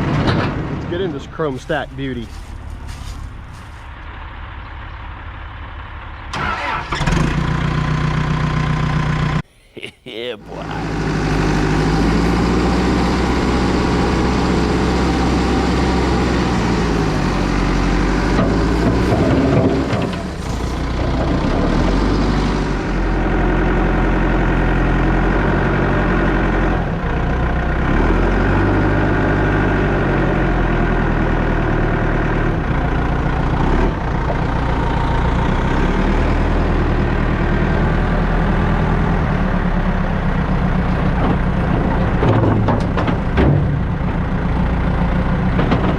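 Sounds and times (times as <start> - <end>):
excavator diesel engine working: 0.0 - 45.9.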